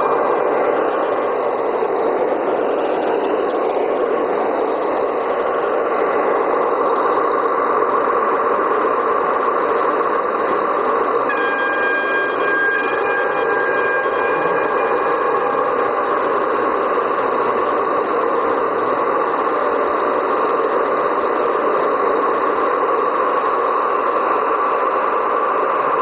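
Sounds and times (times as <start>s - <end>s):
steady high tone: 0.0s - 21.3s
model train rolling rumble: 0.0s - 26.0s.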